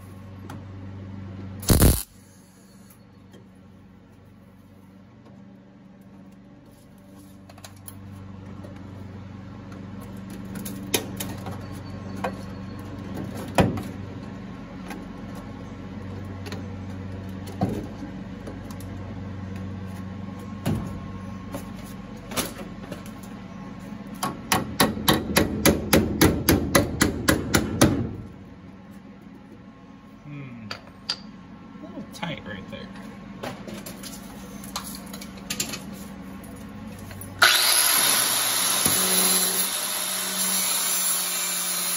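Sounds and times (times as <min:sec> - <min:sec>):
low steady hum: 0:00.0 - 0:41.3.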